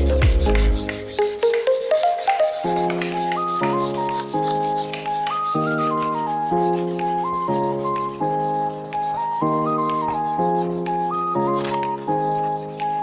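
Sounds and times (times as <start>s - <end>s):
hand sanding strokes: 0.0s - 13.0s
instrumental background music: 0.0s - 13.0s.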